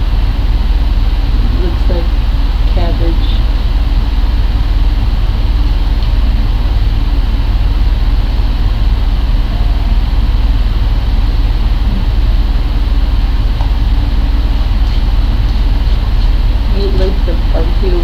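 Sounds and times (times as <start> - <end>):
loud low hum: 0.0 - 18.0.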